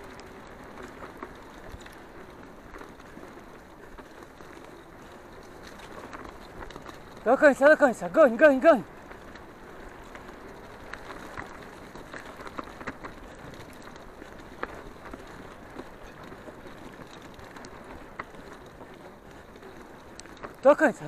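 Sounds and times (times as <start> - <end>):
bicycle clicks and rattles: 0.0 - 21.0
bicycle tyres on dirt: 0.0 - 21.0.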